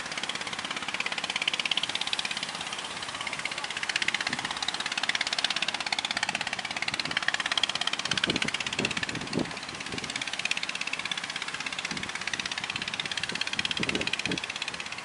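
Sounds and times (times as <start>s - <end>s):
boat engine knocking: 0.0s - 15.0s.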